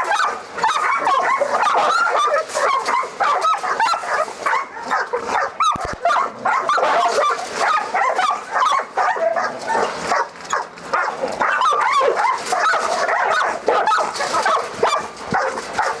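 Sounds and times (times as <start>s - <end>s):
dogs barking: 0.0s - 16.0s.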